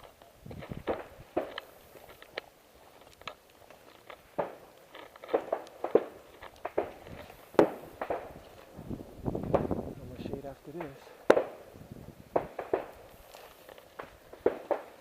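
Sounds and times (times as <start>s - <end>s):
footsteps on trail: 0.0s - 15.0s.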